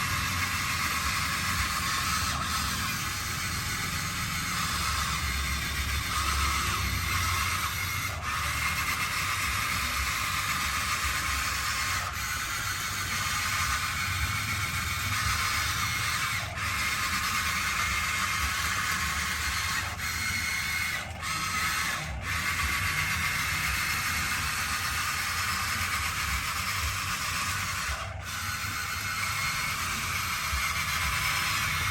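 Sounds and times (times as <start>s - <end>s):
electric motors whirring: 0.0s - 31.9s.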